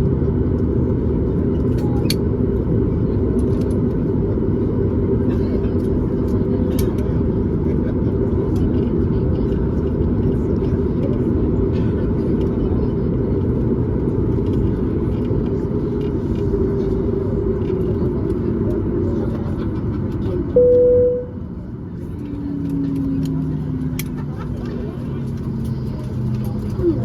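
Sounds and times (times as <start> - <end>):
airplane cabin rumble: 0.0 - 27.0
faint engine tones: 0.0 - 27.0.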